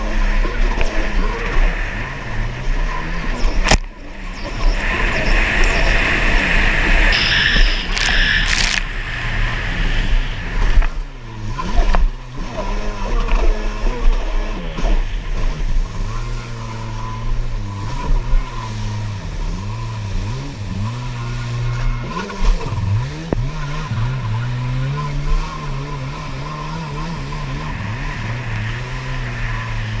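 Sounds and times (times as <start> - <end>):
jet ski engine revving: 0.0 - 30.0
rushing water and spray: 0.0 - 30.0.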